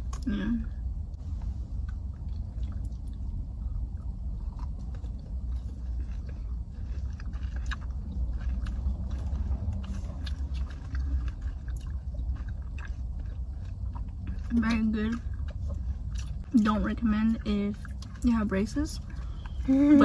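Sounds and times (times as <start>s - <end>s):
steady low rumble: 0.0s - 20.0s
chewing crunchy candy: 1.8s - 20.0s.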